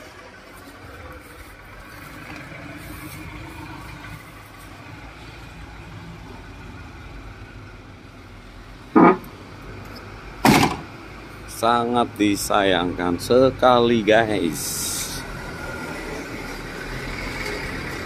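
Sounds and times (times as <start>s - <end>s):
distant vehicle engine rumble: 0.0s - 18.0s.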